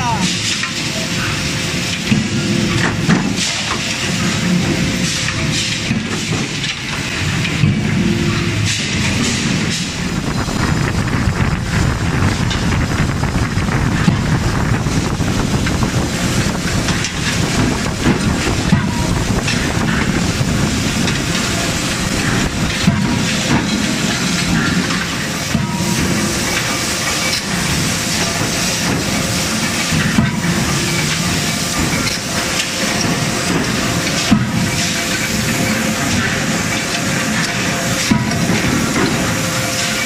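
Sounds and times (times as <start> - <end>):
forging hammer hiss and rush: 0.1 - 40.0.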